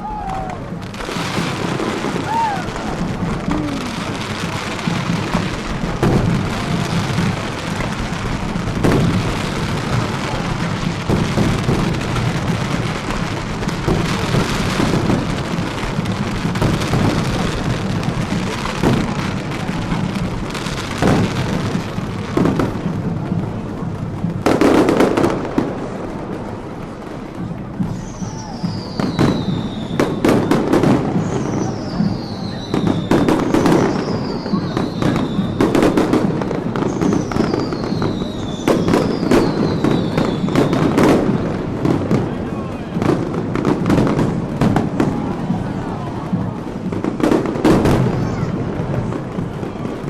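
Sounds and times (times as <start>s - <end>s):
fireworks bangs: 0.0s - 50.0s
fireworks crackling: 0.0s - 50.0s.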